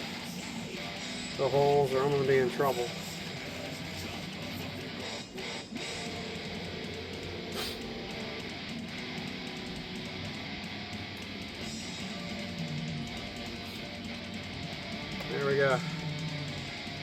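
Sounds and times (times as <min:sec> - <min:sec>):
rock music with electric guitar: 0:00.0 - 0:17.0.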